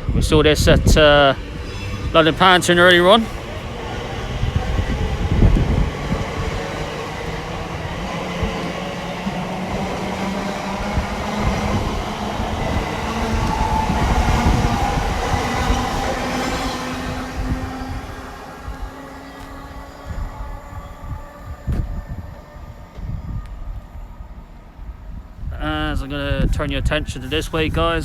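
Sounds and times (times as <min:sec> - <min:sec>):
electric traction whine: 0:00.0 - 0:24.9
train wheels rumbling on track: 0:00.0 - 0:28.0.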